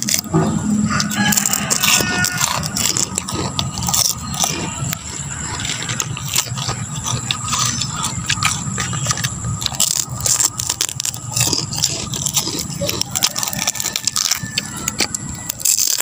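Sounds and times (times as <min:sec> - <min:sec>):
crunchy snack being chewed: 0:00.0 - 0:16.0
low hum: 0:00.0 - 0:16.0.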